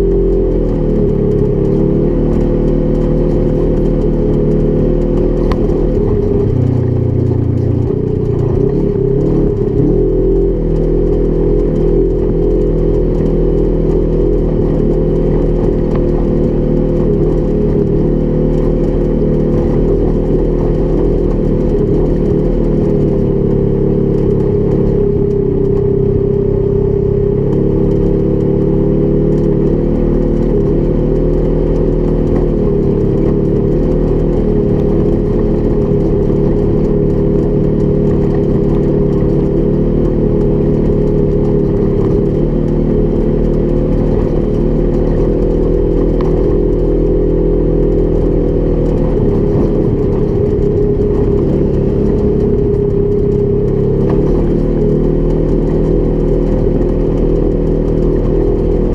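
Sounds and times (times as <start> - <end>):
utility vehicle engine running: 0.0 - 58.9.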